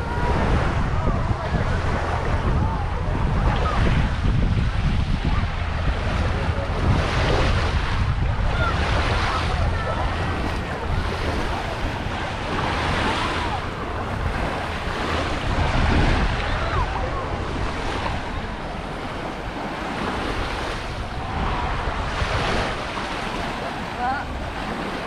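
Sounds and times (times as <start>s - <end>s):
faint distant voices: 0.0s - 25.0s
small waves washing onto shore: 0.0s - 25.0s
wind rumbling on microphone: 0.0s - 25.0s.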